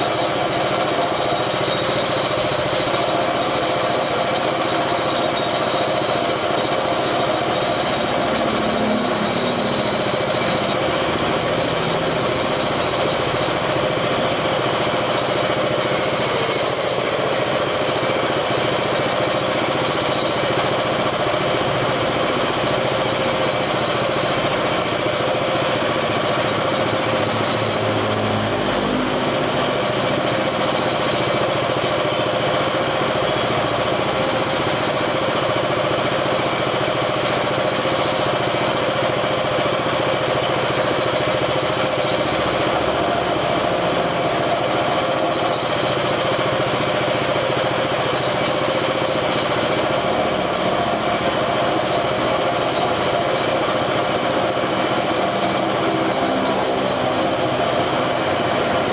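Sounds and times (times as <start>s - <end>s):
piston air compressor running: 0.0s - 58.9s.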